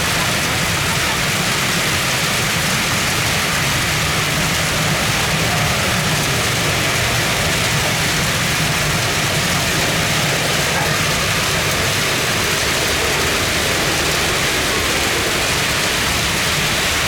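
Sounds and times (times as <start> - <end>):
heavy rain hiss: 0.0 - 17.0.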